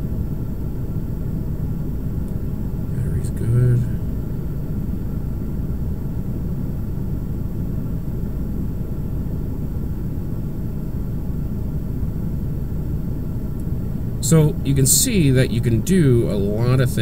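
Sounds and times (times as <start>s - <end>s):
faint steady tones: 0.0s - 17.0s.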